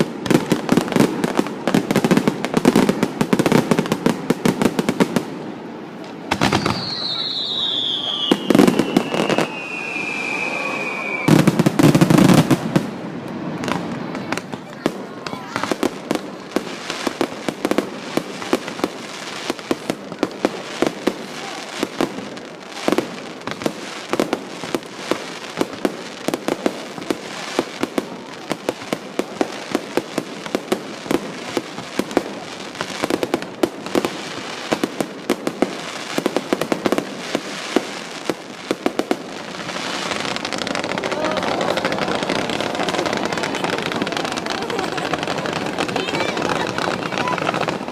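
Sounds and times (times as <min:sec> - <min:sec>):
fireworks bursting: 0:00.0 - 0:47.9.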